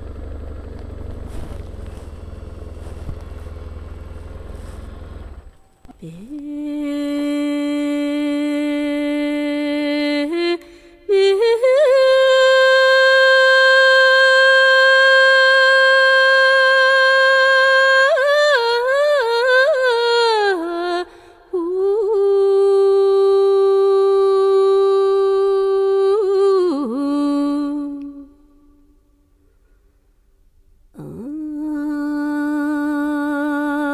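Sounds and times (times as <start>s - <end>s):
woman singing unaccompanied: 4.2s - 29.0s, 31.0s - 33.9s.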